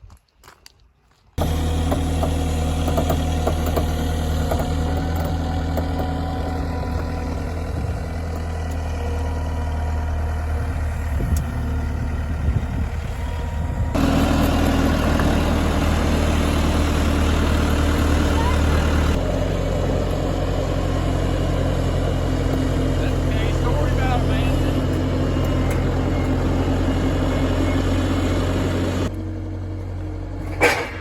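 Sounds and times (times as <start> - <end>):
engine idling: 1.4 - 31.0.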